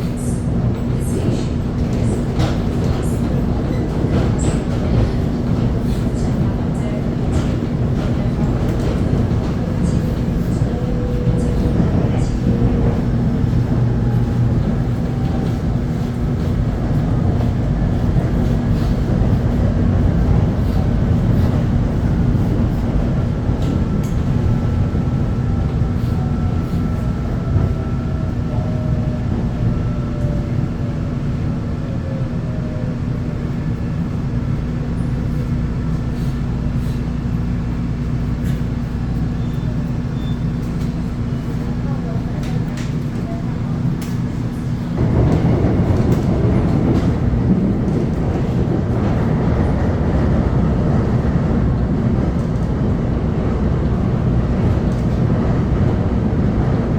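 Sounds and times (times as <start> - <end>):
train rumbling on track: 0.0 - 56.9.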